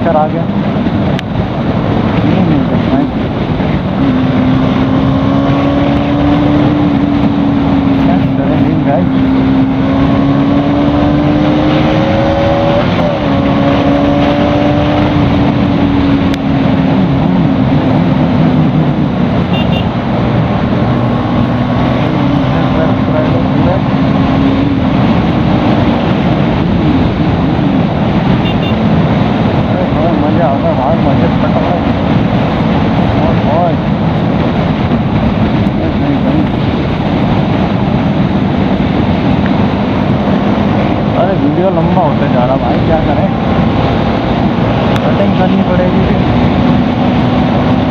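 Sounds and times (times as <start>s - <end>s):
motorcycle engine running: 0.0s - 47.9s
wind noise: 0.0s - 47.9s.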